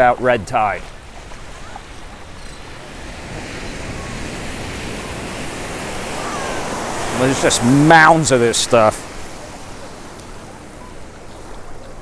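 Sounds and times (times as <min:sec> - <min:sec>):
ocean surf washing up: 0:00.0 - 0:12.0.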